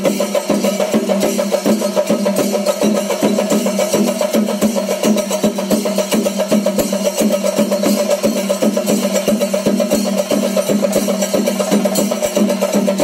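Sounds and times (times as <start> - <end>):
fast dense drumming: 0.0 - 13.0.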